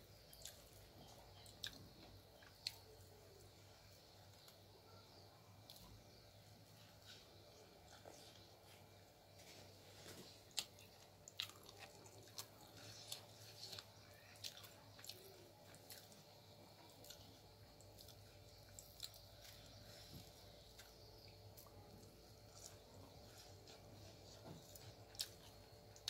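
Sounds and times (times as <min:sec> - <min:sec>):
chewing with wet crunches: 0:00.1 - 0:26.0.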